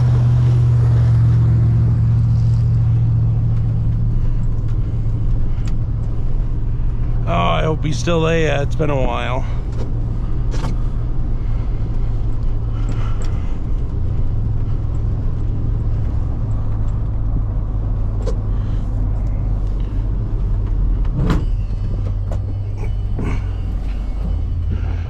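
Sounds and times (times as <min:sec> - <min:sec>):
vehicle engine droning: 0:00.0 - 0:25.0.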